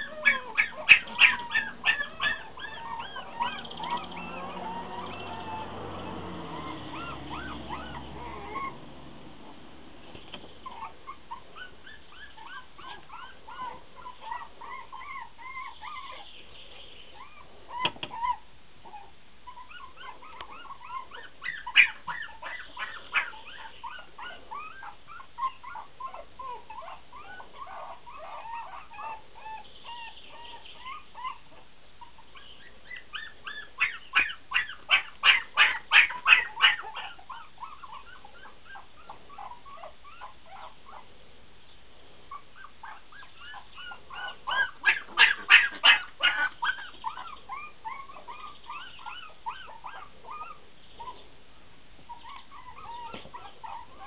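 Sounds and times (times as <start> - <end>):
puppies whining and yelping: 0.0 - 8.9, 10.4 - 41.2, 42.3 - 51.3, 52.0 - 54.0
puppies yapping rapidly: 0.0 - 9.1, 10.2 - 16.4, 17.0 - 41.1, 42.3 - 51.3, 52.0 - 54.0.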